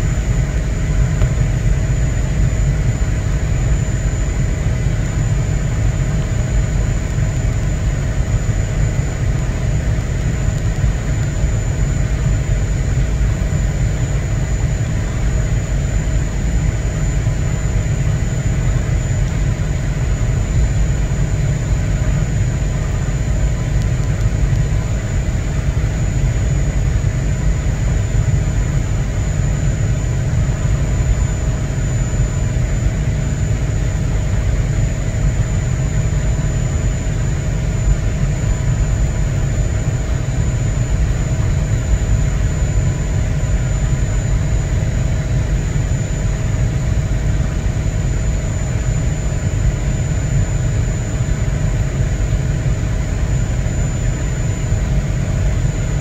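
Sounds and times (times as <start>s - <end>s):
faint hum of tones: 0.0s - 56.0s.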